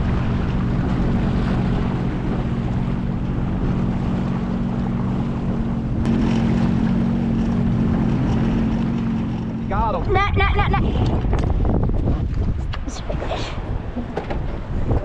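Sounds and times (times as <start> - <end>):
boat motor humming: 0.0 - 15.0
jet ski engine: 0.0 - 15.0
water rushing past hull: 0.0 - 15.0
wind buffeting microphone: 0.0 - 15.0.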